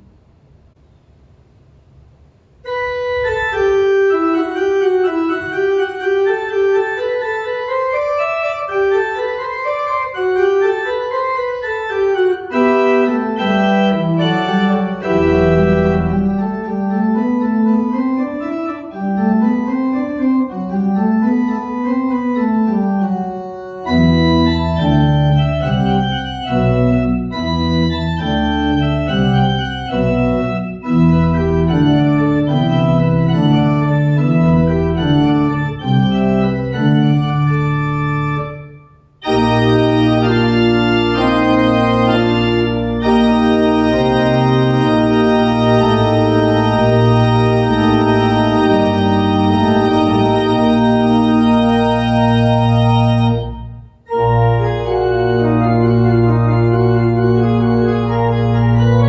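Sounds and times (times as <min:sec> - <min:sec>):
pipe organ playing: 0:02.6 - 0:59.0.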